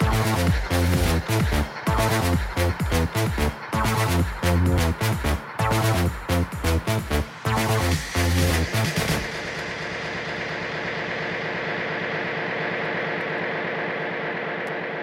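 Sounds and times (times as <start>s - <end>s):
electronic dance music: 0.0s - 15.0s
pulsing mechanical drone: 0.0s - 15.0s.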